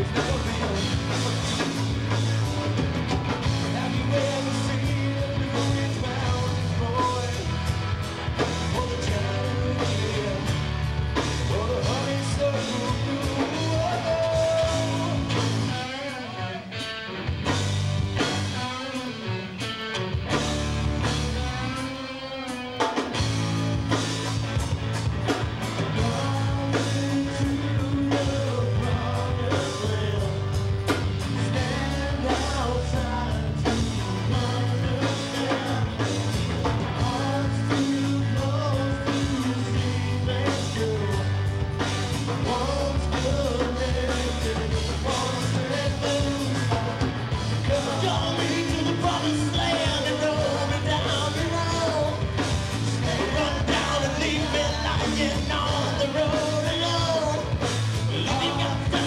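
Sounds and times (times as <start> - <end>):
man singing lead: 0.0 - 17.1, 18.2 - 20.0, 20.9 - 24.3, 25.3 - 59.0
live rock band playing: 0.0 - 59.0.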